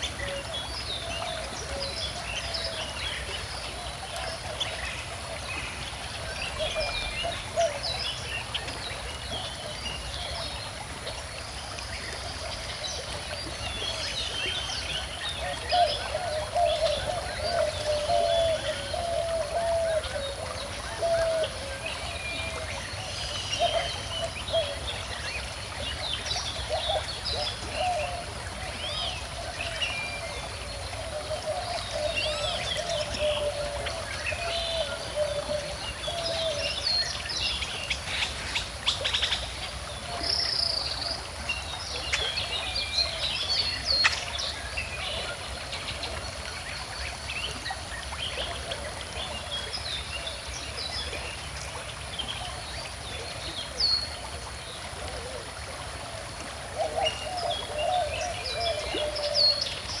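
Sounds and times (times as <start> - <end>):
river flowing: 0.0 - 60.0.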